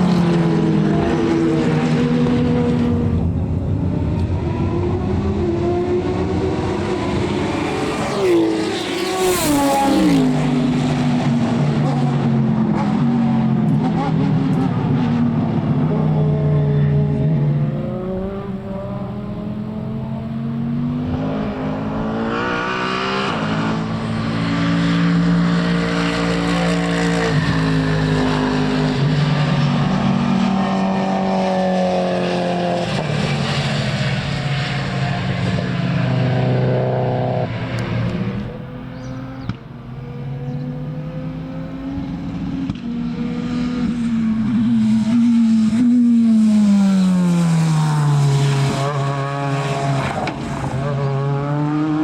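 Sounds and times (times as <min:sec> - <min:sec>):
racing car engine accelerating: 0:00.0 - 0:52.0.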